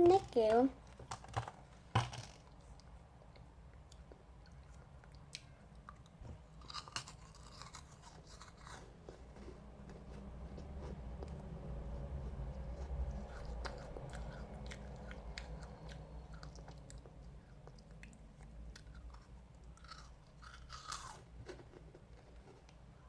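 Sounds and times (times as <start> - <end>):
crunching and chewing cookie: 0.1 - 23.0.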